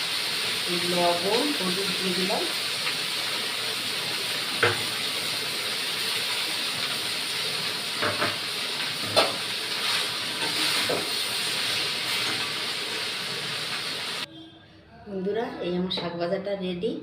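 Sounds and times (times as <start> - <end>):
greens sizzling in hot oil: 0.0 - 14.3.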